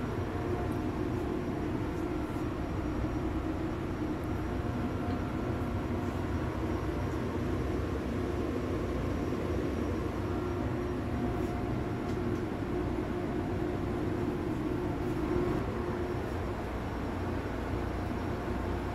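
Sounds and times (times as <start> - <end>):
machinery droning: 0.0 - 18.9.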